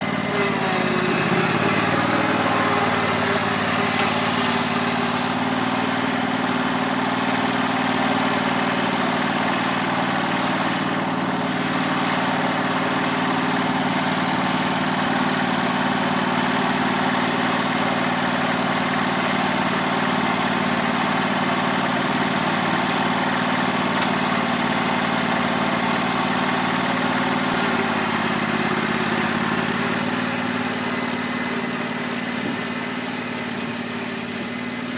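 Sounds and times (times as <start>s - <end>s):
lawn mower motor hum: 0.0s - 34.9s.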